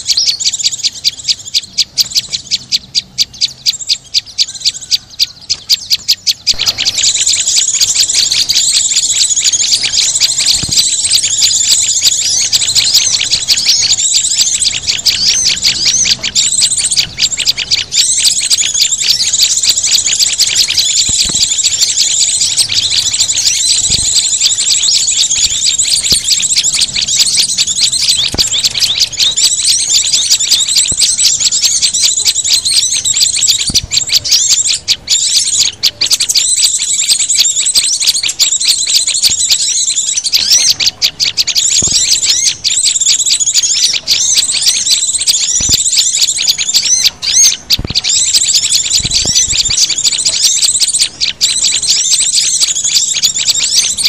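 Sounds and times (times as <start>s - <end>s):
songbirds twittering: 0.0s - 54.0s.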